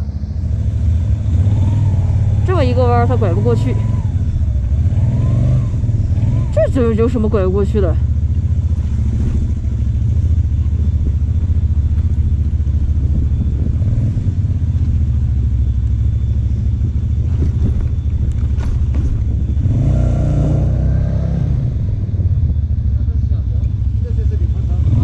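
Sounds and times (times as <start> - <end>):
higher engine note: 0.0 - 25.0
motorcycle engine rumble: 0.0 - 25.0.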